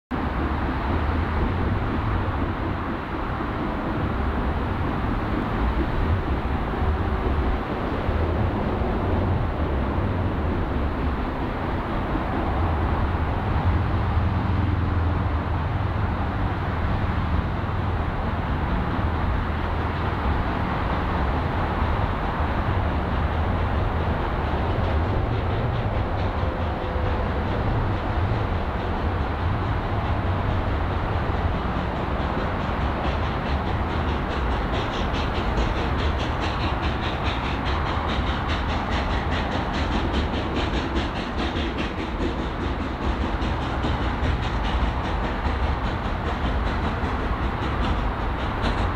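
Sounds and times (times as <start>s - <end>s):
steam locomotive low rumble: 0.1s - 48.9s.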